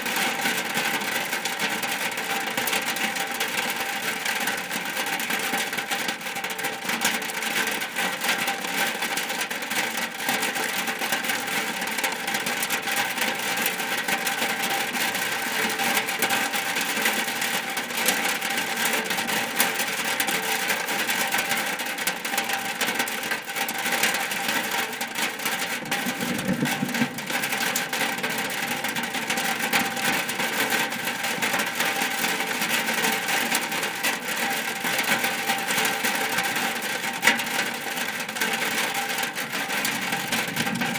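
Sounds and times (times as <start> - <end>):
rain pattering on a roof: 0.0 - 40.9.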